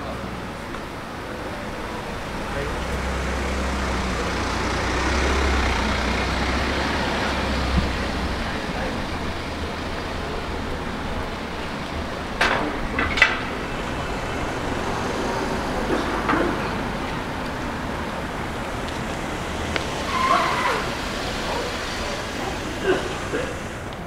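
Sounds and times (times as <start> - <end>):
street traffic hum: 0.0 - 24.0.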